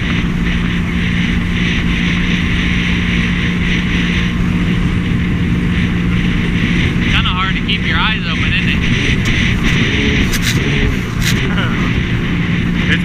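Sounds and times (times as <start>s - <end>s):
jet ski engine running: 0.0s - 13.0s
wind noise: 0.0s - 13.0s.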